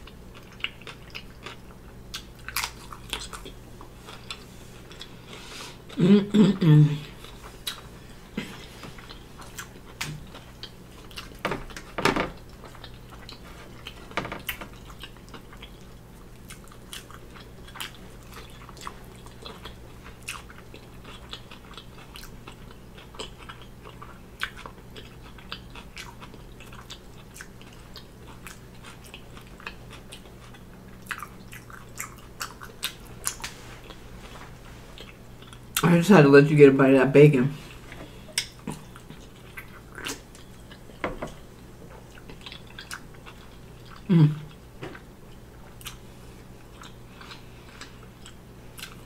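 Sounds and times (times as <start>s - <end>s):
person chewing food: 0.0s - 6.0s, 7.0s - 35.8s, 37.6s - 49.0s.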